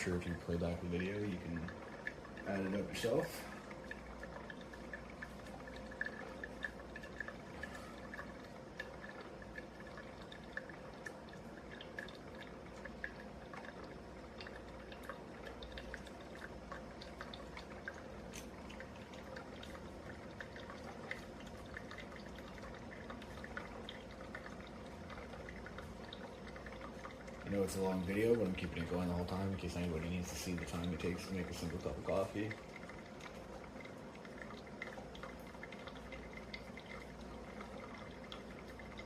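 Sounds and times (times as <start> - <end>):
coffee maker humming: 0.0 - 39.0
soft drips and ticks: 0.0 - 39.0.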